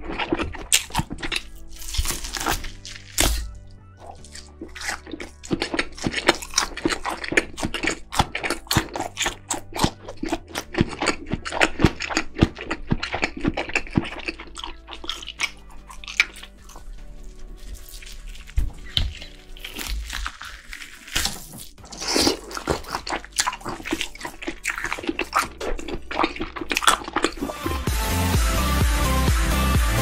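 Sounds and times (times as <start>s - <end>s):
chewing meat wet smacks: 0.0s - 27.6s.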